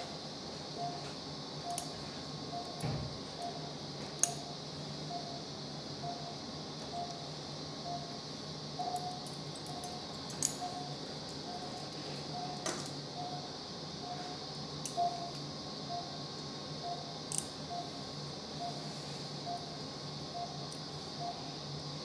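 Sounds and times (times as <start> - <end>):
monitor beeping: 0.8 - 3.8, 4.4 - 8.2, 8.8 - 16.2, 16.8 - 18.0, 18.6 - 21.6.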